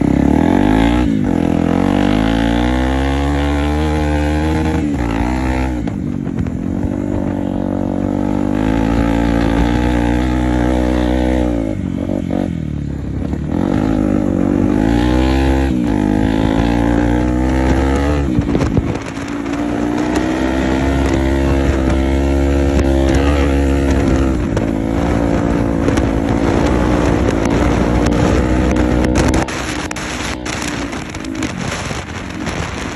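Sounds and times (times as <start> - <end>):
off-road vehicle engine revving: 0.0 - 32.9.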